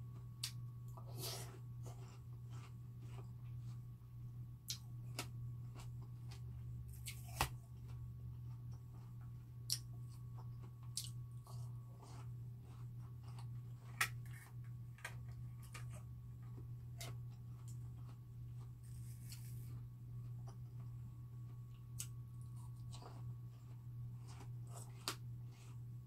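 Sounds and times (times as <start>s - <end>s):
low steady hum: 0.0s - 26.0s
chewing watermelon: 0.1s - 3.9s, 4.6s - 26.0s.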